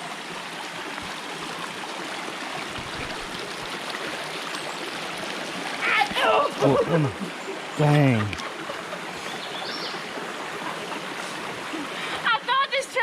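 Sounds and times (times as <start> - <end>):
creek flowing over rocks: 0.0 - 13.0.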